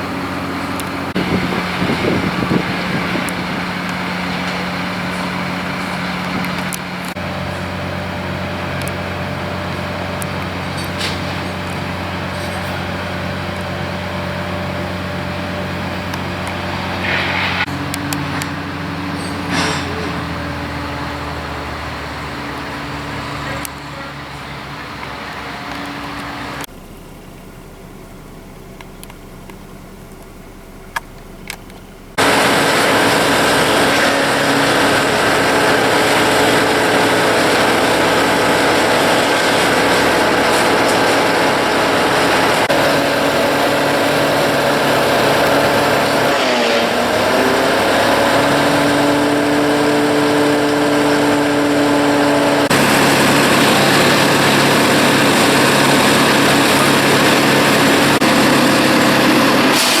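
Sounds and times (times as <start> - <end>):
chainsaw engine running: 0.0 - 23.8, 32.2 - 60.0.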